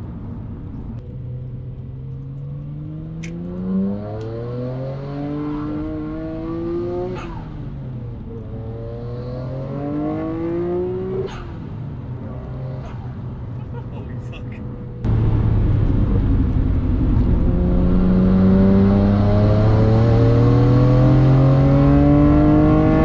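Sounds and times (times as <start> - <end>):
car engine accelerating hard: 2.2 - 14.4, 15.0 - 23.0.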